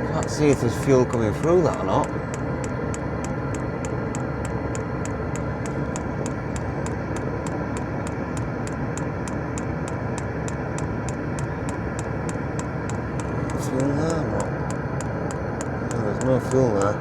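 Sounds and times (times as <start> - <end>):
fuel pump ticking: 0.0 - 17.0
heater fan whirring: 0.0 - 17.0.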